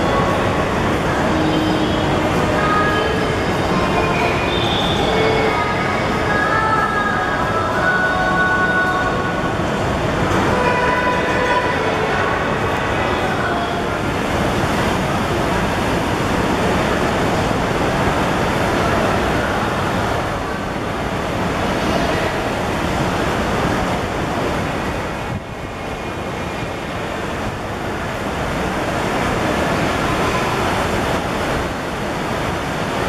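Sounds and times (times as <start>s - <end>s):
rushing wind and rain: 0.0s - 33.0s.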